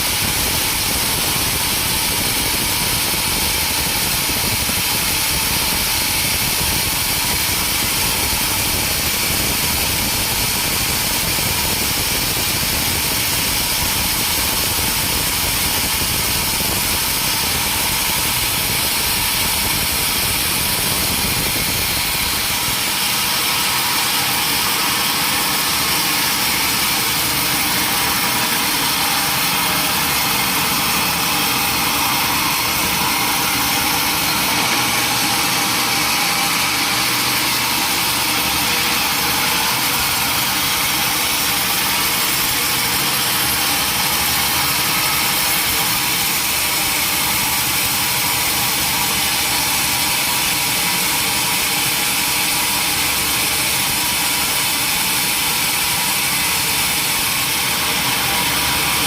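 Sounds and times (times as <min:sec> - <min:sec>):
log saw running: 0:00.0 - 0:59.0.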